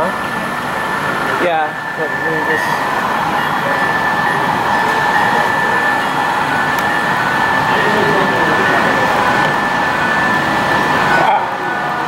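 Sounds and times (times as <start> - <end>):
high whine: 0.0 - 12.0
model train whirring: 0.0 - 12.0.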